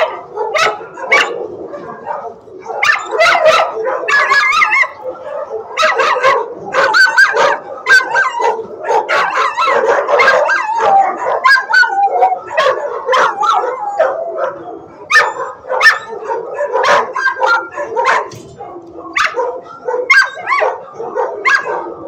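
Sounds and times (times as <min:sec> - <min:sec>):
dogs barking and howling: 0:00.0 - 0:22.0.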